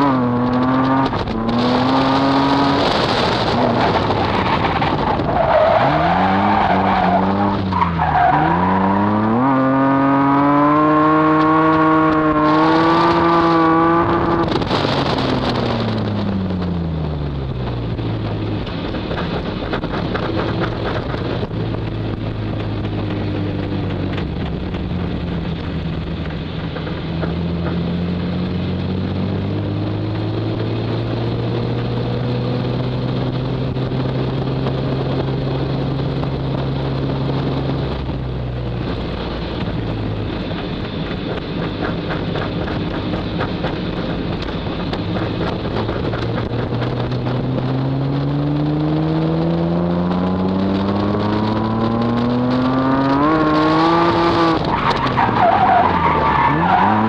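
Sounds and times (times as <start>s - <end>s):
car engine revving: 0.0s - 57.0s
wind noise on microphone: 0.0s - 57.0s.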